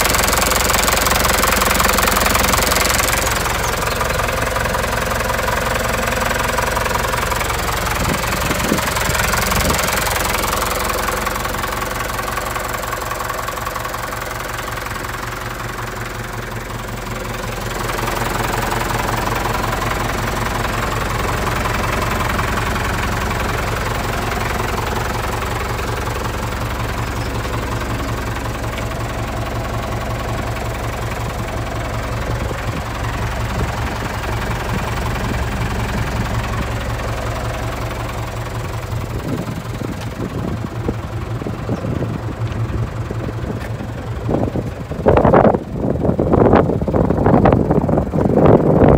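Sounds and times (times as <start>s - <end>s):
truck engine idling with clatter: 0.0s - 48.9s.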